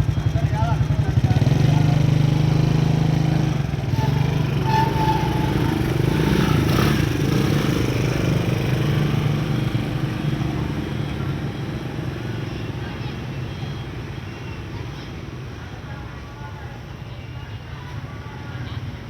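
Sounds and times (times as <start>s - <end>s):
heavy machinery diesel engine: 0.0s - 19.0s.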